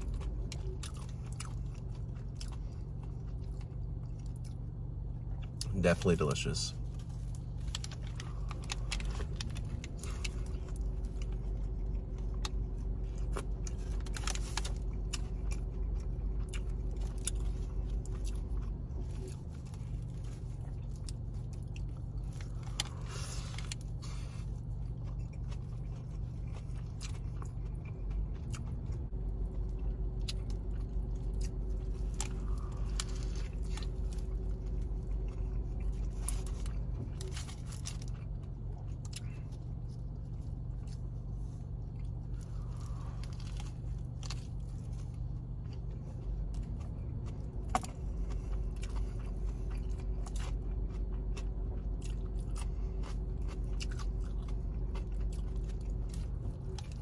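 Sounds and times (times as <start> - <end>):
person crunching and chewing: 0.0 - 57.0
steady low hum: 0.0 - 57.0.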